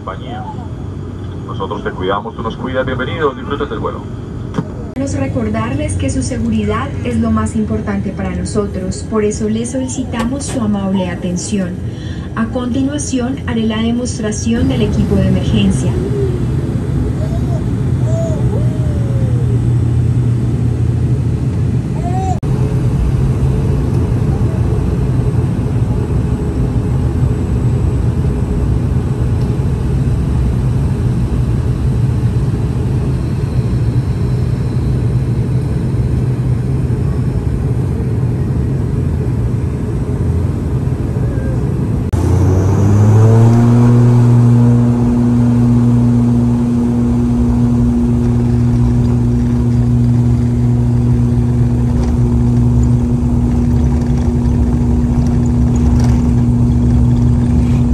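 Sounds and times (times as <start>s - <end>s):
turboprop engines droning: 0.0s - 57.9s.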